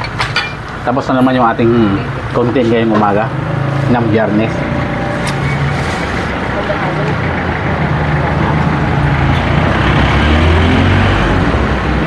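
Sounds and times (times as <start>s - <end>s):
loud rumbling low drone: 2.0s - 12.0s.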